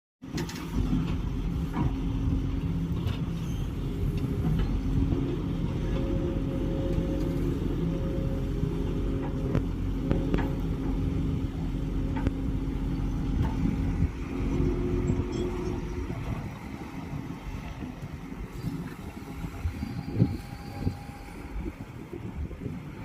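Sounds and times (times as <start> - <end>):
excavator diesel engine running: 0.2 - 23.0.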